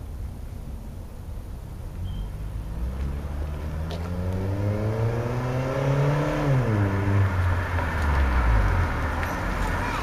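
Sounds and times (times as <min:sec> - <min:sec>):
car engine accelerating: 0:01.9 - 0:10.0.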